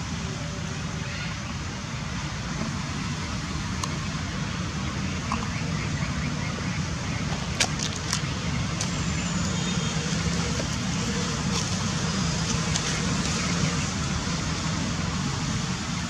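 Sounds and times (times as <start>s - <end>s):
distant road traffic rumble: 0.0s - 16.0s.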